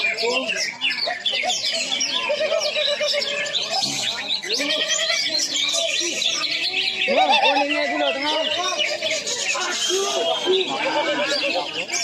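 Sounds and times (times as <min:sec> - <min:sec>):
crowd voices calling: 0:00.0 - 0:12.0
songbirds chirping and trilling: 0:00.0 - 0:12.0.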